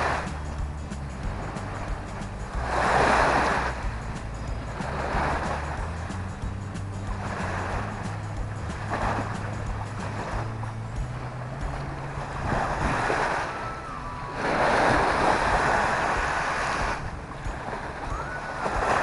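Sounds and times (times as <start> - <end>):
small waves washing on shore: 0.0 - 19.0
wind on microphone: 0.0 - 19.0.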